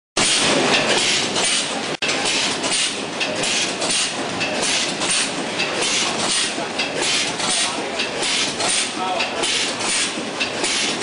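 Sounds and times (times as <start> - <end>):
packing machine mechanical clatter: 0.2 - 11.0.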